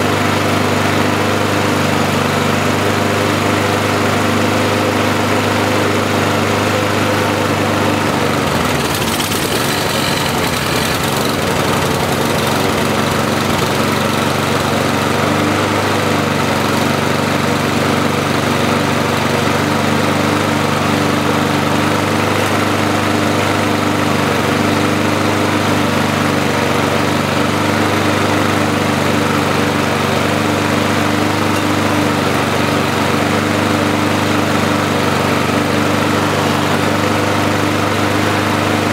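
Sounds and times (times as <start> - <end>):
lawnmower engine running: 0.0 - 38.9.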